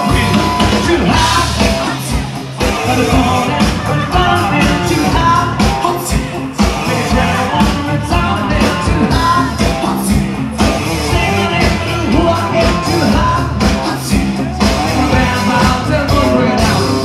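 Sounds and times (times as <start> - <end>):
loud rock music with singer: 0.0 - 17.0
steady drum beat: 0.0 - 17.0.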